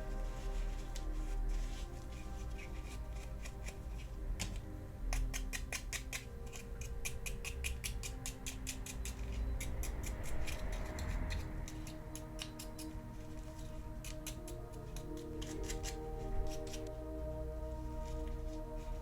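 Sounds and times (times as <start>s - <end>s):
rapid rubbing strokes on toy parts: 0.0s - 16.9s
background music: 0.0s - 19.0s.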